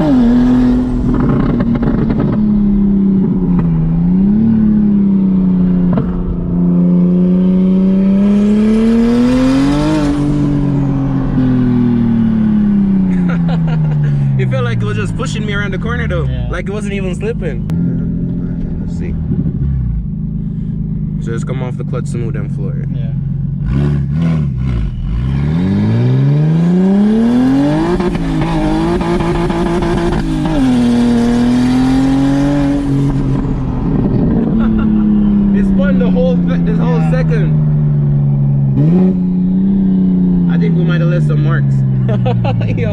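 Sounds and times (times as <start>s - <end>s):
car engine accelerating: 0.0s - 42.9s
turbo and intake rush: 0.0s - 42.9s.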